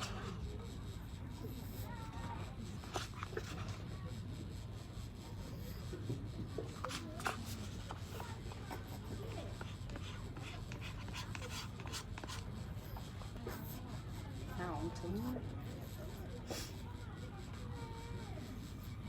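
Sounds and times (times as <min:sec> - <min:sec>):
faint voices: 0:00.0 - 0:19.0
steady low hum: 0:00.0 - 0:19.0.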